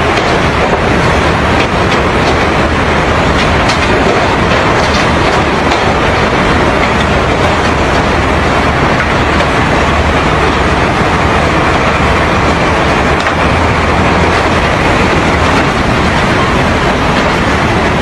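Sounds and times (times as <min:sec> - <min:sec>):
heavy truck running: 0:00.0 - 0:18.0
river rapids rushing: 0:00.0 - 0:18.0.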